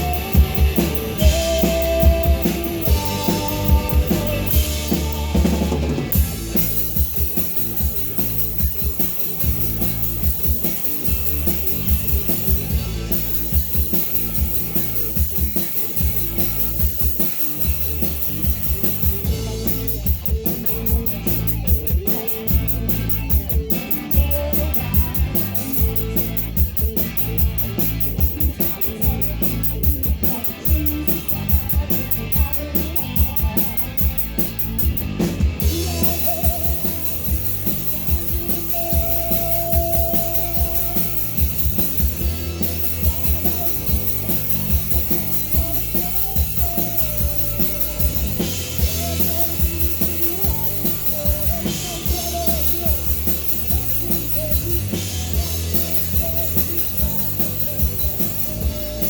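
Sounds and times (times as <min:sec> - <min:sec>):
bass: 0:00.0 - 0:59.0
drum kit: 0:00.0 - 0:59.0
electric guitars: 0:00.0 - 0:59.0.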